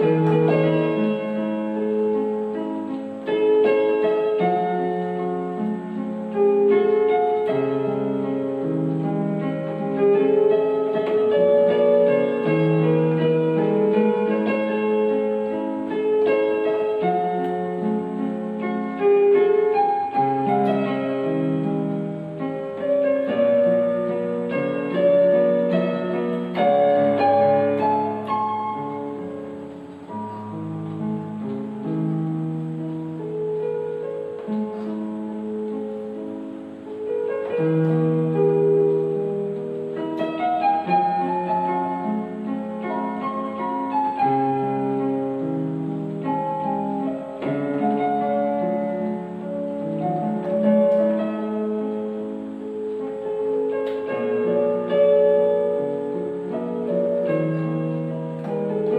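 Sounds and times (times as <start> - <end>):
electronic keyboard piano piece: 0.0 - 58.9.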